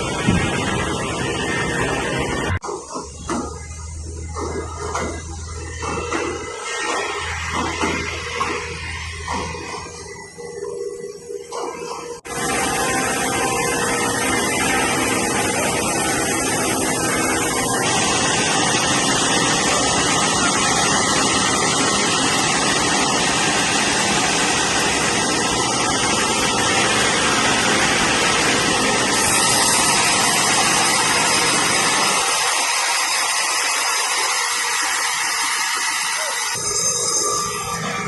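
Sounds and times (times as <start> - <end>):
engine hum: 0.0 - 32.5
sawmill machinery running: 0.0 - 38.0.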